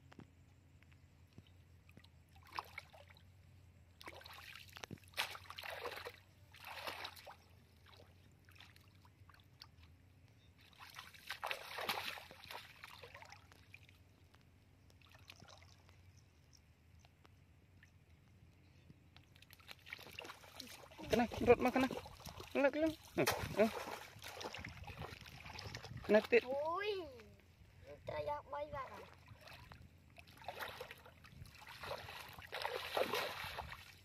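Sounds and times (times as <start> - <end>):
muddy water sloshing and splashing: 1.4 - 18.3, 19.1 - 34.0.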